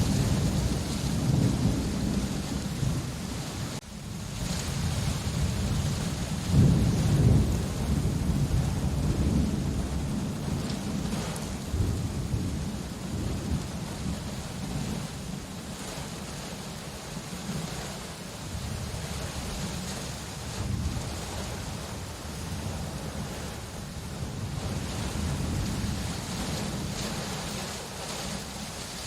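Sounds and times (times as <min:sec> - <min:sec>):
rolling thunder: 0:00.0 - 0:16.0, 0:18.5 - 0:27.8
steady rain: 0:00.0 - 0:29.0.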